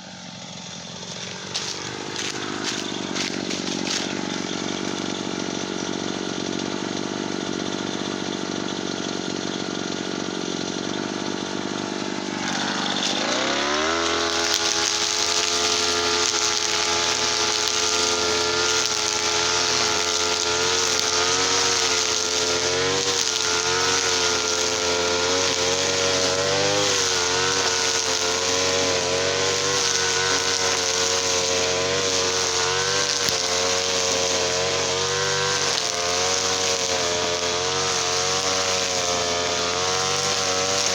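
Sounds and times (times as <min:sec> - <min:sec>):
small two-stroke engine revving: 0:00.0 - 0:40.9.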